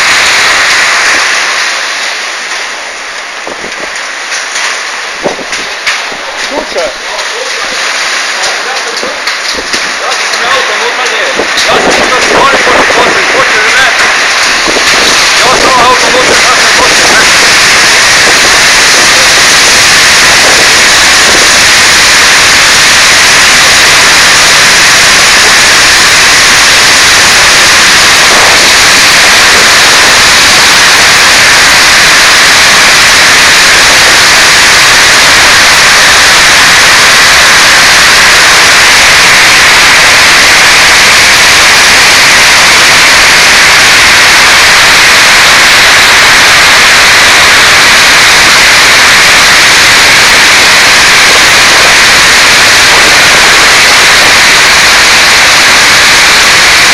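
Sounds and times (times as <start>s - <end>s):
heavy rain and hail: 0.0s - 56.9s.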